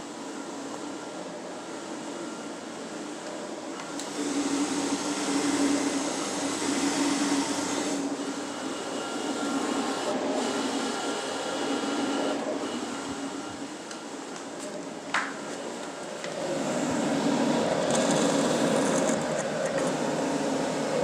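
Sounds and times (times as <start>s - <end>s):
printers whirring: 0.0s - 21.0s.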